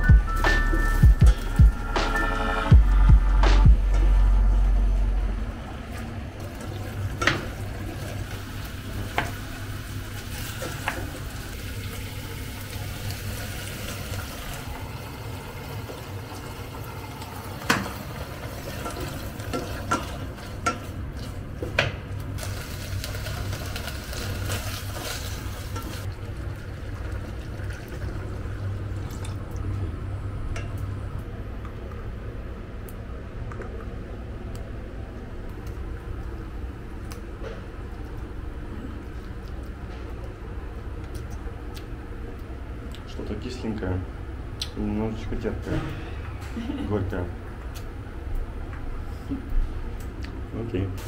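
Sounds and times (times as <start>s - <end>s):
steady low hum: 0.0s - 15.5s, 19.1s - 51.0s.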